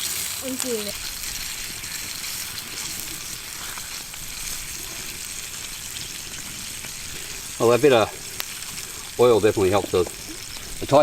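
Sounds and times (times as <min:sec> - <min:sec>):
bacon sizzling in hot oil: 0:00.0 - 0:11.0.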